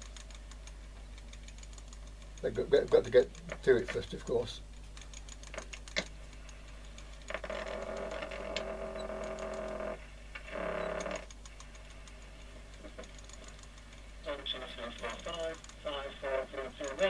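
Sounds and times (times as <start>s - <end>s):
tape recorder motor running: 0.0s - 17.0s.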